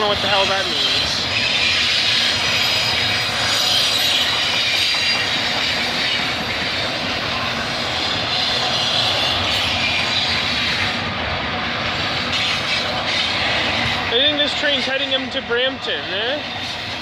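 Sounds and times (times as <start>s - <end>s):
railcar wheels rumbling on rails: 0.0s - 17.0s.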